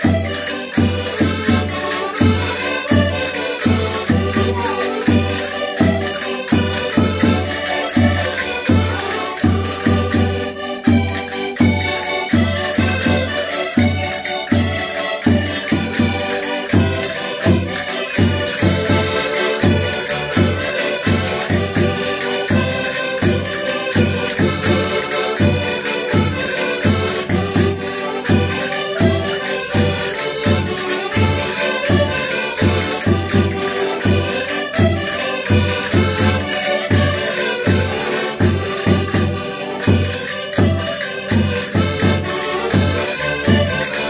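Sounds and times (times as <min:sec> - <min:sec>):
accordions playing folk dance tune: 0:00.0 - 0:44.0.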